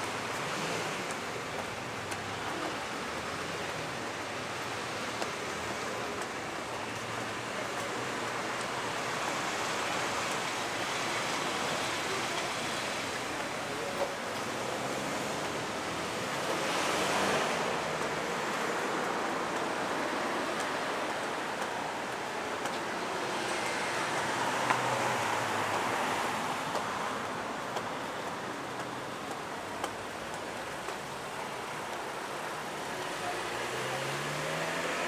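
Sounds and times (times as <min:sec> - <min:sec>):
steady street hiss: 0:00.0 - 0:35.0.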